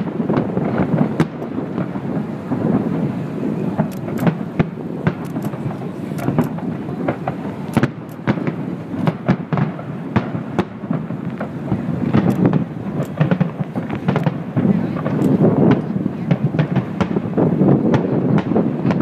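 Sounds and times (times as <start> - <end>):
distant fireworks rumble: 0.0 - 19.0
firework cracks and bangs: 0.0 - 19.0.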